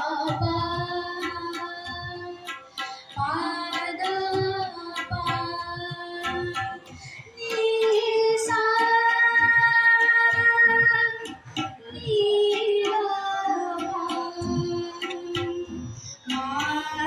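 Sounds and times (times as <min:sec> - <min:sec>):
girl singing into a microphone: 0:00.0 - 0:17.0
tabla drums beat: 0:00.0 - 0:17.0.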